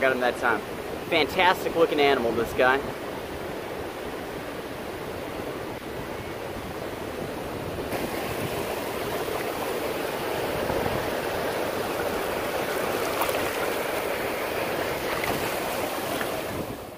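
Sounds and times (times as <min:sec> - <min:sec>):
surf washing over sand: 0:00.0 - 0:16.9.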